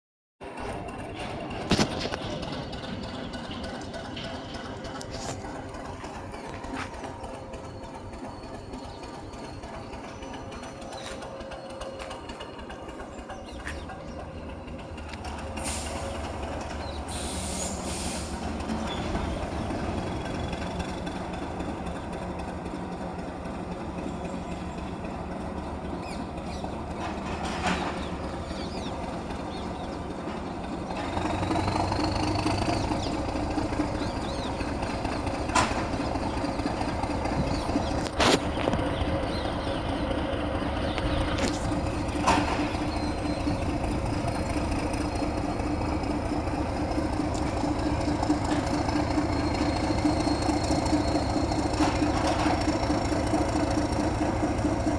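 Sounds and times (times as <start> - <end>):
locomotive engine drone: 0.4 - 54.9
faint high wheel squeal: 2.0 - 21.3, 25.9 - 54.5.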